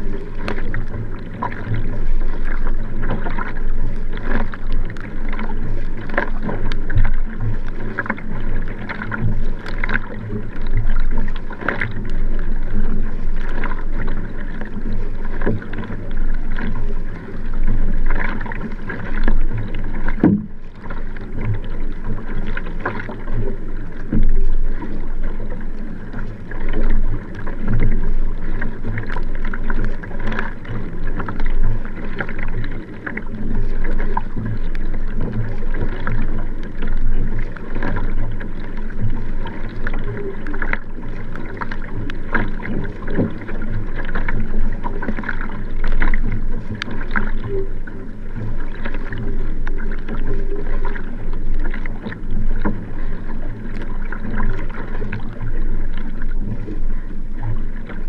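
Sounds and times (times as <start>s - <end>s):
paddle strokes splashing: 0.0s - 58.0s
water rushing along hull: 0.0s - 58.0s.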